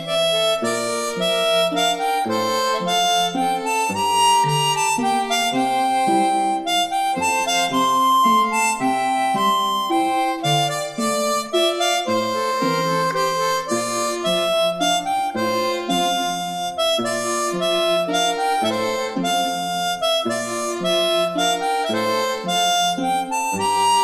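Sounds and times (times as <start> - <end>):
instrumental background music: 0.0 - 24.0.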